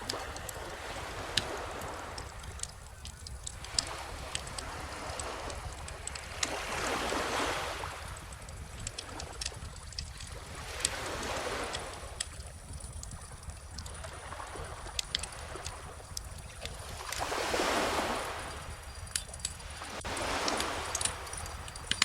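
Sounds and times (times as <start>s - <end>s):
bonfire crackling and popping: 0.0s - 22.0s
small ocean waves washing in: 0.0s - 22.0s.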